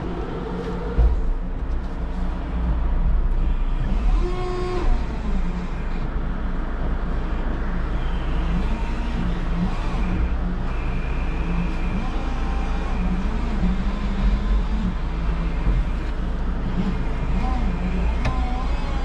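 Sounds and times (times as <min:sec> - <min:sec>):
forklift rumble: 0:00.0 - 0:19.0
pitched machine whine: 0:00.0 - 0:19.0.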